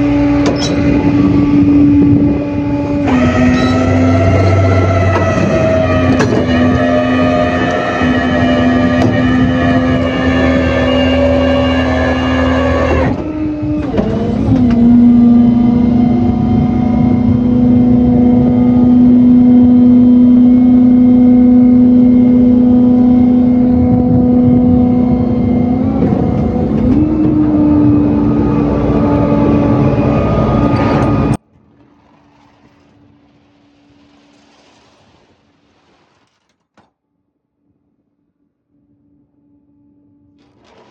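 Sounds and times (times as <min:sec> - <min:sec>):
truck engine droning: 0:00.0 - 0:36.1.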